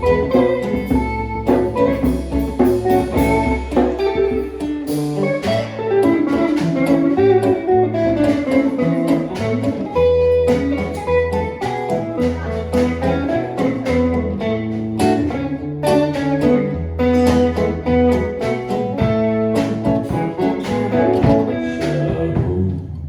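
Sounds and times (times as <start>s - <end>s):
acoustic and electric guitars: 0.0s - 23.0s.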